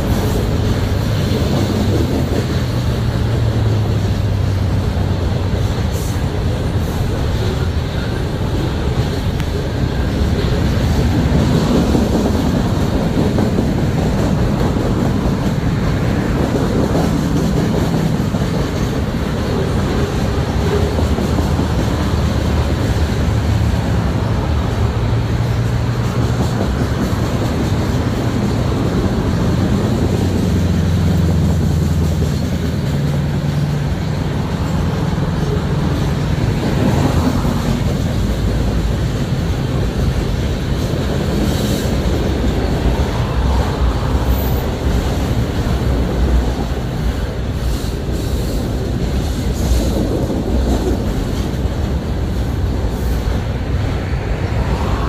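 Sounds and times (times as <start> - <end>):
freight train rumbling past: 0.0 - 55.0
wheels clattering on rails: 0.0 - 55.0.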